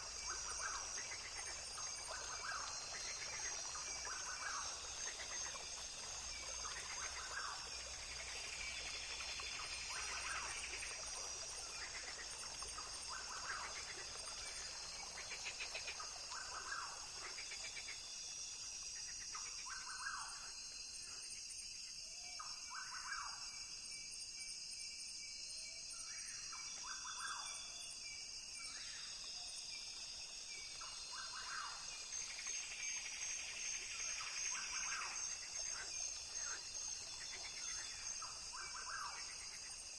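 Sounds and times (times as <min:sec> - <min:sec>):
high insect chorus: 0:00.0 - 0:39.9.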